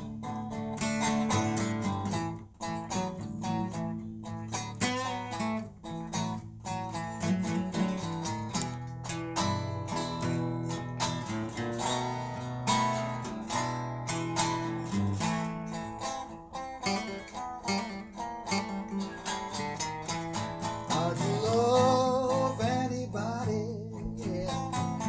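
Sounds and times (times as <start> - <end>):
plucked guitar notes: 0.0 - 25.0.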